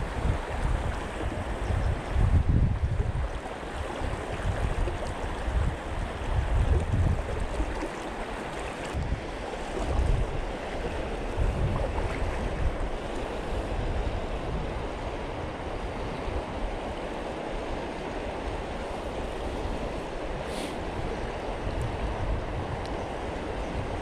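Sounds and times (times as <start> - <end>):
wind buffeting microphone: 0.0 - 16.9, 17.8 - 24.0.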